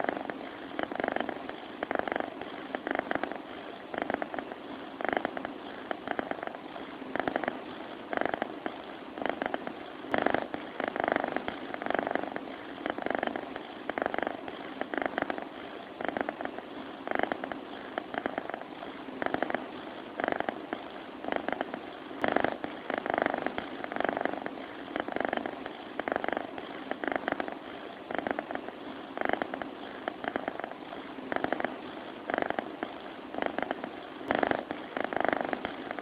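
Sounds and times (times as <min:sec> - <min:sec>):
cat purring and snoring: 0:00.0 - 0:36.0.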